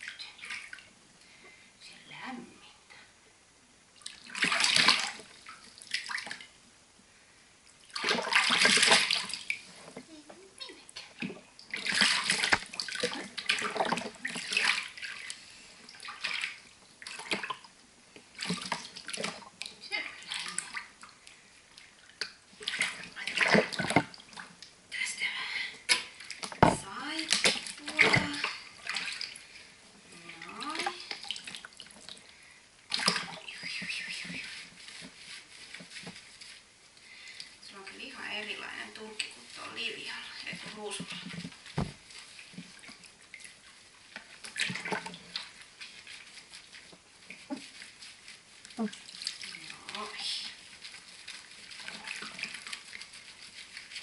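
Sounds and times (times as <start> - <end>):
bathwater splashing: 0.0 - 0.9, 4.0 - 6.6, 7.8 - 9.8, 11.0 - 24.8, 25.9 - 54.0.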